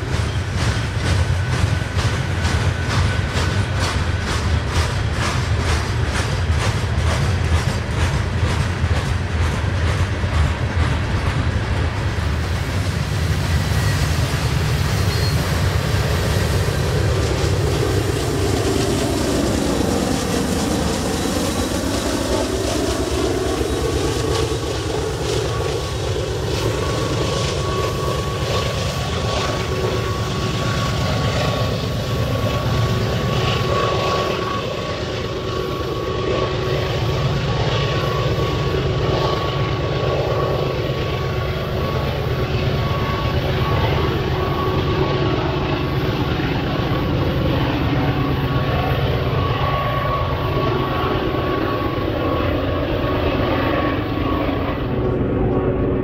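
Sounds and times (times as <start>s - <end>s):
diesel locomotive engine passing: 0.0s - 56.0s
rumble of freight cars: 0.0s - 56.0s.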